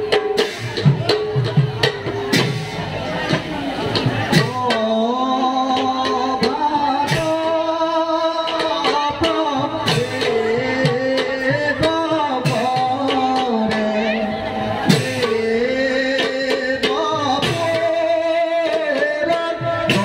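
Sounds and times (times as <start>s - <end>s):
drum strokes: 0.0s - 20.0s.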